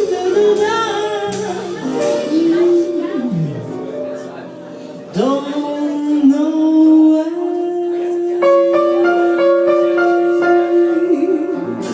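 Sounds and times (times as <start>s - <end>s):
piano chords: 0.0s - 11.9s.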